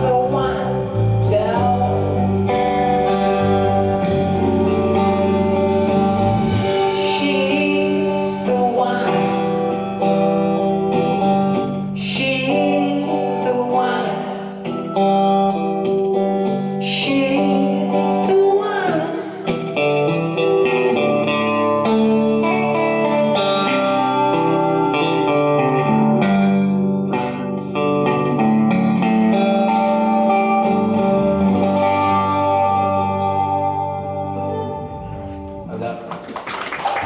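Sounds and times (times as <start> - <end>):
live rock band playing: 0.0 - 36.2.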